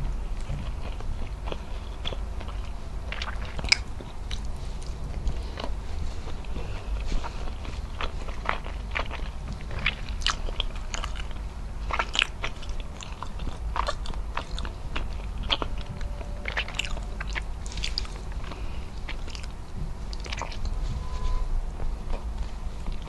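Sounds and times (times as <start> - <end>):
steady low hum: 0.0 - 23.0
wet chewing and mouth smacks: 0.3 - 20.8.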